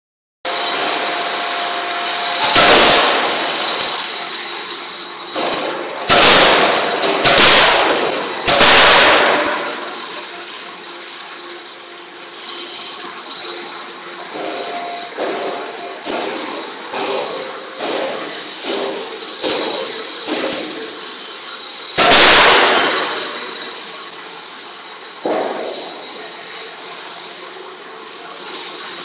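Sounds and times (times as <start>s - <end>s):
forging hammer striking steel: 0.5s - 27.6s
steady high-pitched tone: 0.5s - 29.0s.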